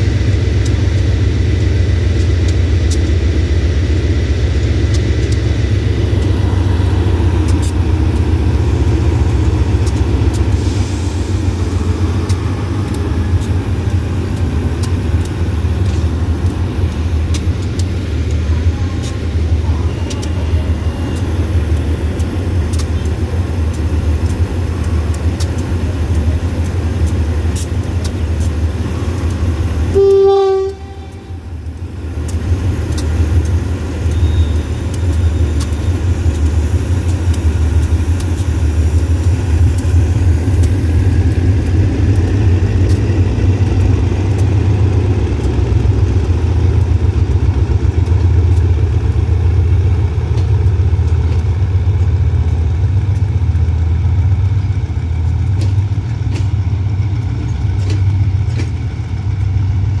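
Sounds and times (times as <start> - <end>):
diesel locomotive engine drone: 0.0 - 60.0
wheels clicking over rail joints: 0.0 - 60.0.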